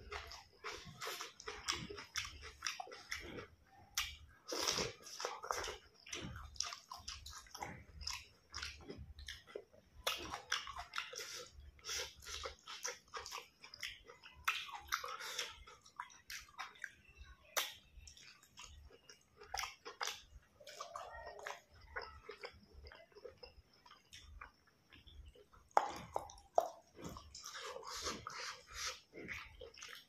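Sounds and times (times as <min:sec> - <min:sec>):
chewing and biting food: 0:00.0 - 0:30.0.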